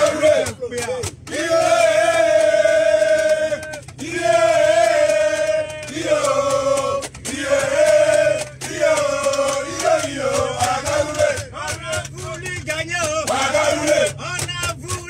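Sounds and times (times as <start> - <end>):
coach engine hum: 0.0 - 15.0
young men singing a chant: 0.0 - 15.0.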